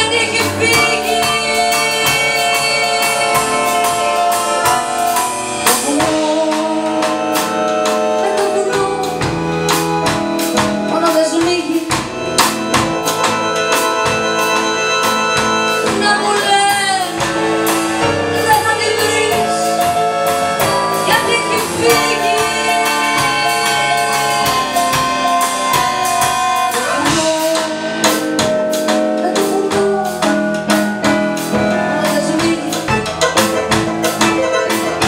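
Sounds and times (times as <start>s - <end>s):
accordion: 0.0s - 35.0s
drum kit: 0.0s - 35.0s
keyboard: 0.0s - 35.0s.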